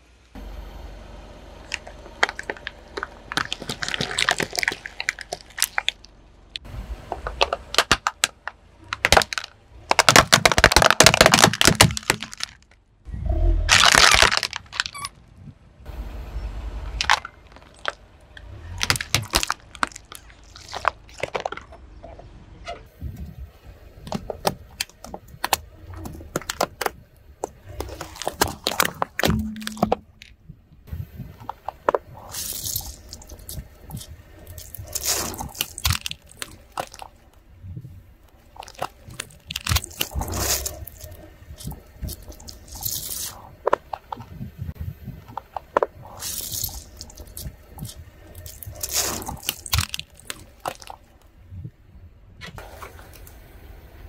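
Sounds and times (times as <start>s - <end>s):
objects cracking under tyre: 1.6s - 13.0s, 13.7s - 15.5s, 16.9s - 23.3s, 24.0s - 51.4s.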